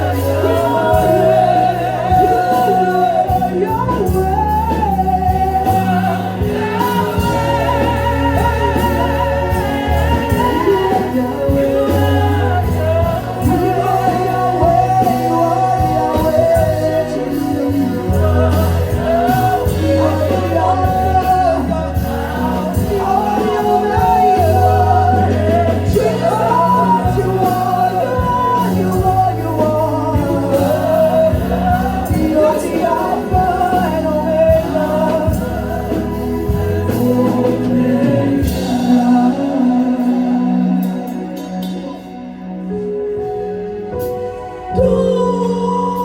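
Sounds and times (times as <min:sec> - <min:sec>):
band with sustained bass: 0:00.0 - 0:46.0
gospel singing: 0:00.0 - 0:46.0.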